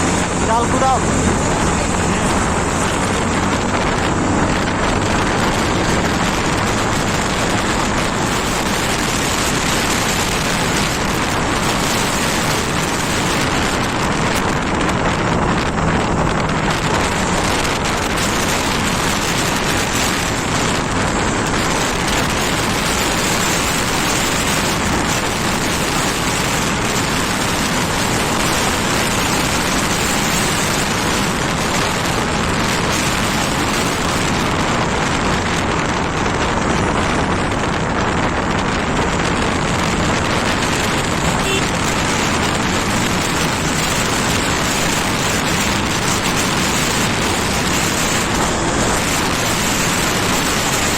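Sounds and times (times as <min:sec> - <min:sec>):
wind and road noise: 0:00.0 - 0:50.9.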